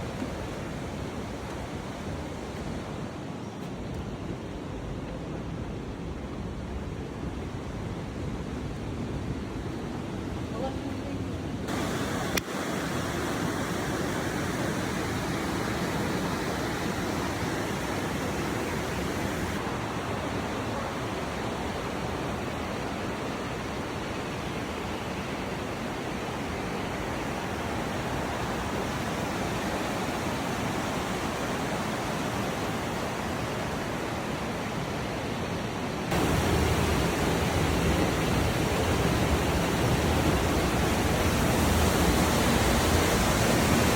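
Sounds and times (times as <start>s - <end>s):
stream water rushing: 0.0s - 4.5s, 11.4s - 43.9s.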